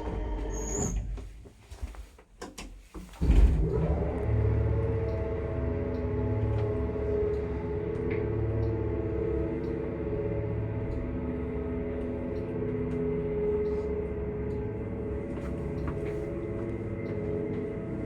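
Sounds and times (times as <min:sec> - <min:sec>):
elevator motor humming: 0:03.2 - 0:18.0.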